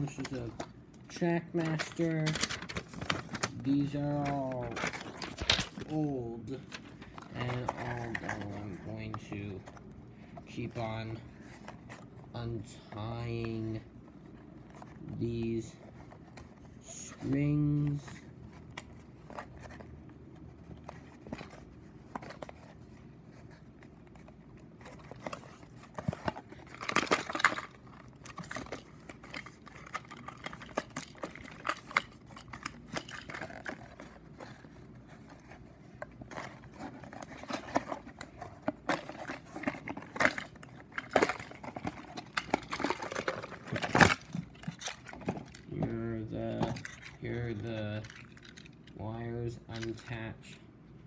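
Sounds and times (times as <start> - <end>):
plastic packaging rustling: 0.0 - 50.2.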